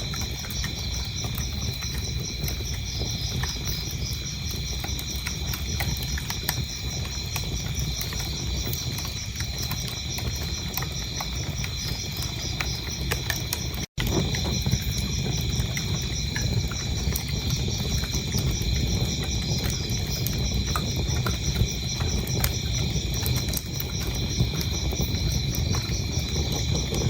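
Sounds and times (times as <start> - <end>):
crickets chirping: 0.0 - 27.0
wood fire crackling and popping: 0.0 - 27.0.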